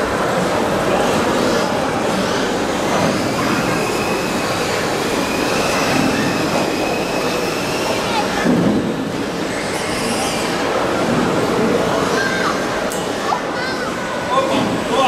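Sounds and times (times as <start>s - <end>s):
crowd din in a hall: 0.0s - 15.0s.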